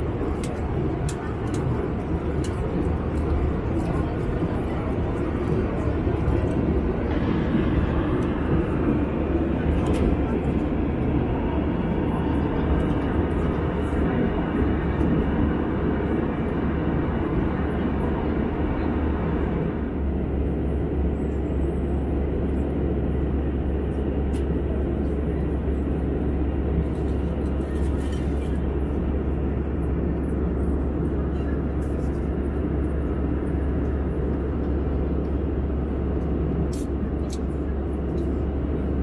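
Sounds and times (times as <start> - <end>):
aircraft cabin rumble: 0.0 - 39.0.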